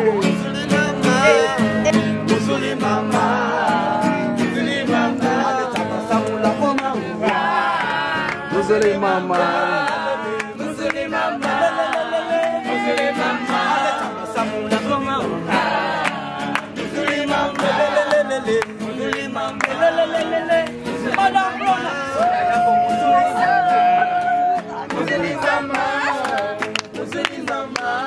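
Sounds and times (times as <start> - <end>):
group of voices singing: 0.0 - 28.0
strummed acoustic guitar: 0.0 - 28.0.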